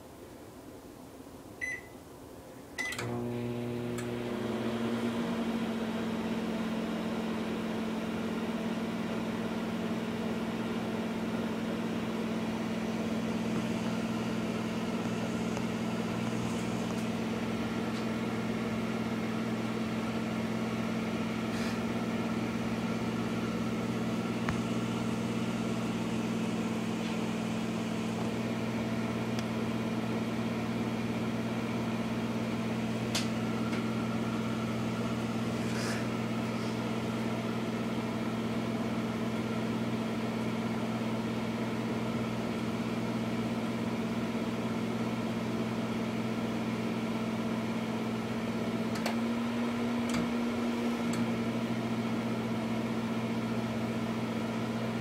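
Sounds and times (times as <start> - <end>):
microwave oven humming: 1.3 - 55.0.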